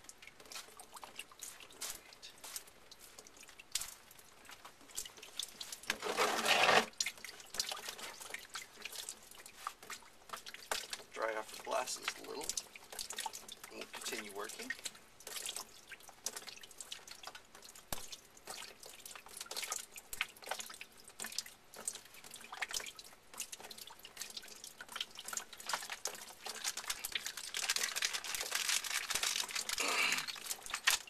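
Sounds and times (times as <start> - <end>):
water dripping and trickling: 0.0 - 31.0.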